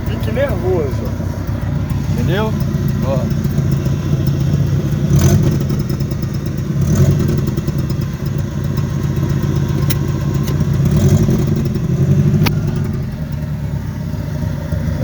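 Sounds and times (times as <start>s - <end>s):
car engine idling with deep rumble: 0.0s - 15.0s.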